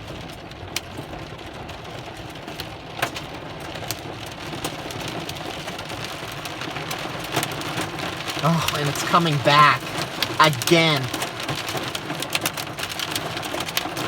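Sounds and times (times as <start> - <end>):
steady rain: 1.3 - 14.0.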